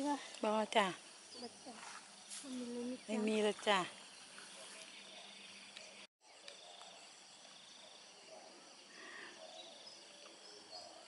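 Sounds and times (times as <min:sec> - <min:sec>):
insects trilling: 0:00.0 - 0:11.0
soft bird chirps: 0:01.3 - 0:11.0.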